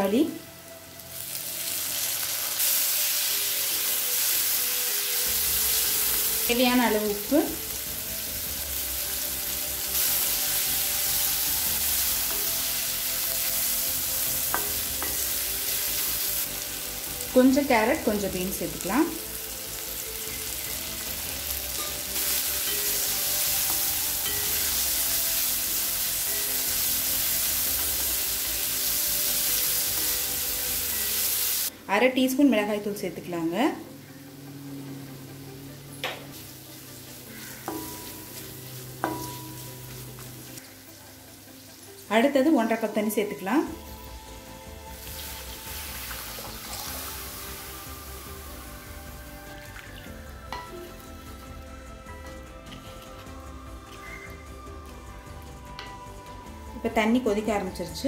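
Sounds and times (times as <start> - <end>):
vegetables sizzling in oil: 0.0 - 33.7, 35.2 - 58.0.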